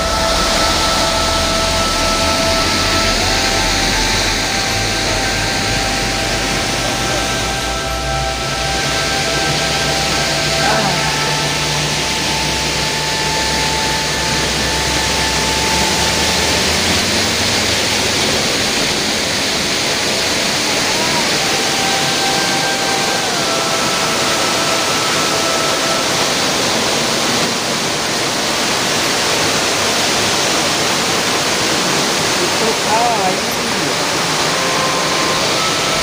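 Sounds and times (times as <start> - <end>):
faint high held tones: 0.0 - 31.1, 32.3 - 36.0
waterfall roaring: 0.0 - 36.0.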